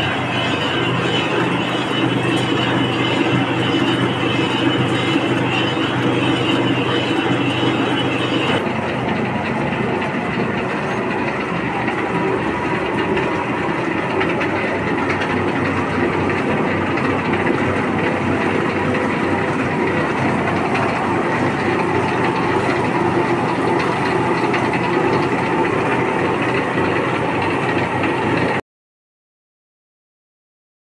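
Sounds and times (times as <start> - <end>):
high-pitched whine: 0.0 - 26.6
lathe mechanical clatter: 0.0 - 28.6.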